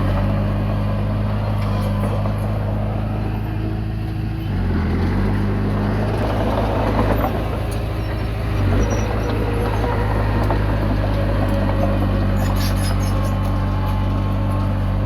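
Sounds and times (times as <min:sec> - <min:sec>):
bulldozer diesel engine running: 0:00.0 - 0:15.0
bulldozer tracks clanking: 0:00.0 - 0:15.0.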